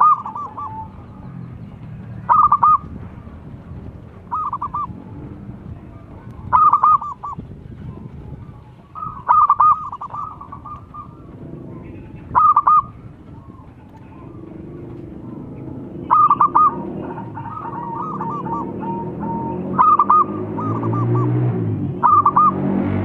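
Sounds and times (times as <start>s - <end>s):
dove cooing: 0.0s - 3.4s, 4.2s - 22.6s
low background murmur: 0.0s - 20.8s.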